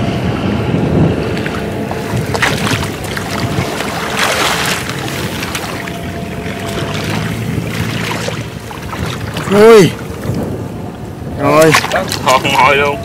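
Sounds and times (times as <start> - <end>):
water splashing and sloshing: 0.0 - 13.0
wind buffeting microphone: 0.0 - 13.0.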